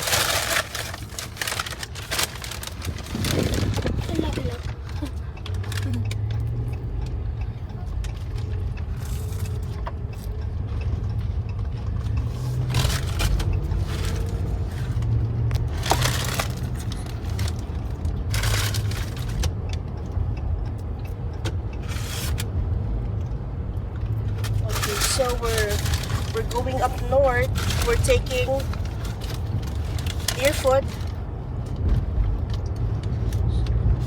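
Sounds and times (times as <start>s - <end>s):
truck road and engine rumble: 0.0s - 34.0s.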